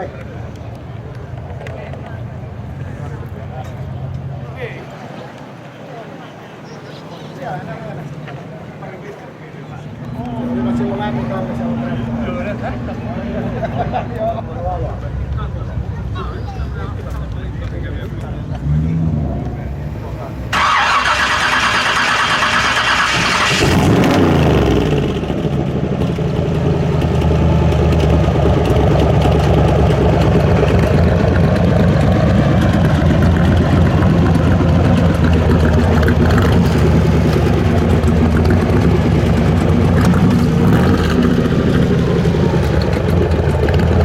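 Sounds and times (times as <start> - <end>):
car engine revving and idling: 7.5 - 44.0.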